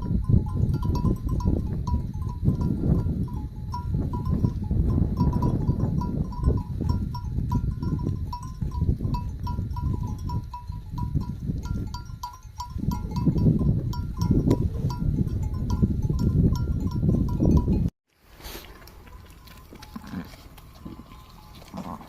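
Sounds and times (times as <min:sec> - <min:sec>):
livestock bells clinking: 0:00.0 - 0:17.9, 0:19.0 - 0:22.0.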